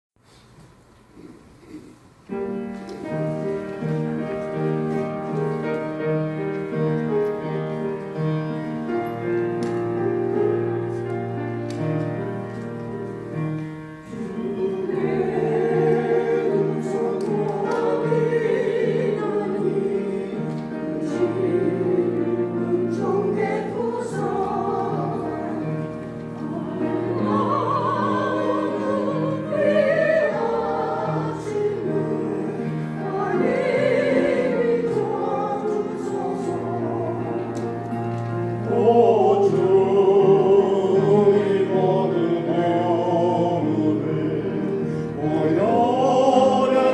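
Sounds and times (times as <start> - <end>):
choir singing with vibrato: 3.0 - 46.9.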